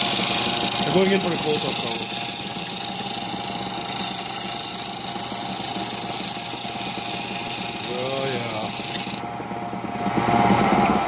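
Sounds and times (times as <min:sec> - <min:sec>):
wood lathe whining: 0:00.0 - 0:09.3.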